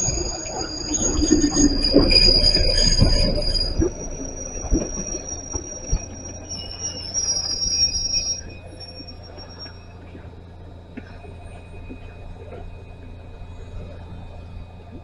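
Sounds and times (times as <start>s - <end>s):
train wheel and brake squeal: 0.0s - 15.0s.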